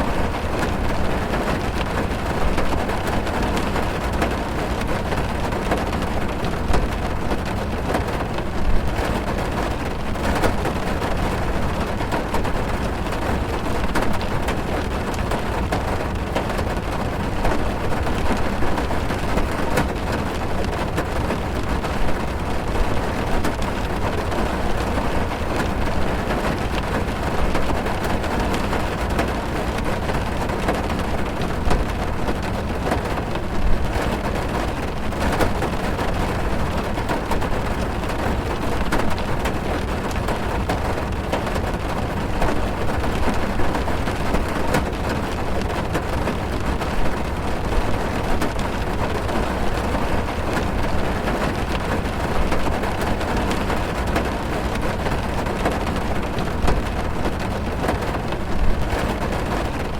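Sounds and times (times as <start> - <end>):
heavy rain on car roof: 0.0 - 59.9.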